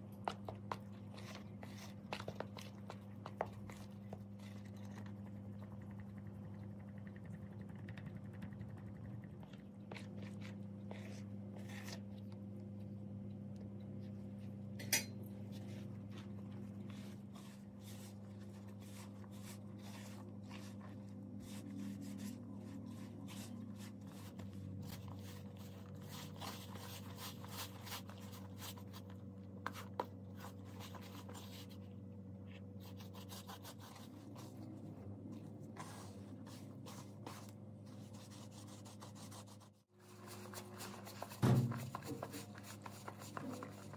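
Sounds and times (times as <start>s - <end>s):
hands kneading dough in bowl: 0.0s - 14.7s, 15.4s - 43.9s
steady low hum: 0.0s - 43.9s.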